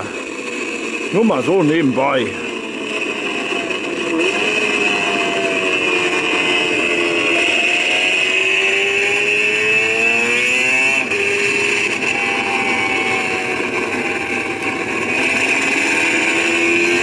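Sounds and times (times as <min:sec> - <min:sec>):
racing motorcycle engine accelerating: 0:00.0 - 0:17.0.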